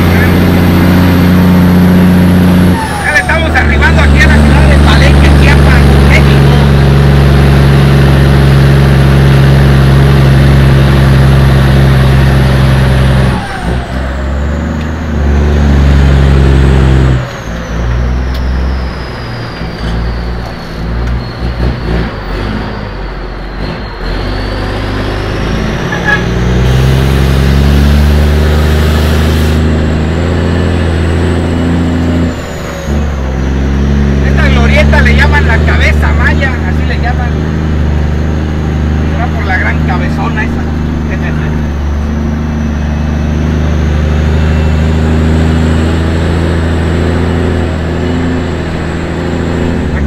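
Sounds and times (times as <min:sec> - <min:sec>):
vehicle engine droning: 0:00.0 - 0:50.0.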